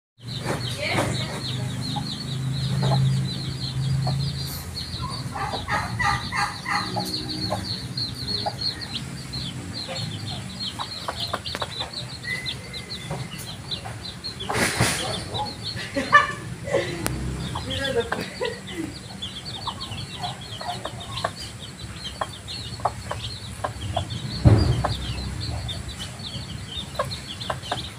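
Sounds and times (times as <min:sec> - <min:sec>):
chicks peeping: 0:00.2 - 0:27.9.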